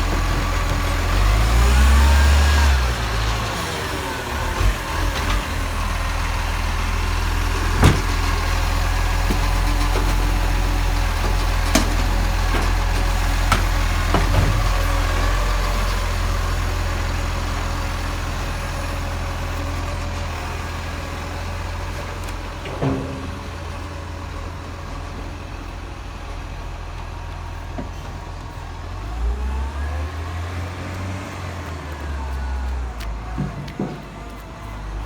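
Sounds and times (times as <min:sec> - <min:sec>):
garbage truck engine running: 0:00.0 - 0:35.0.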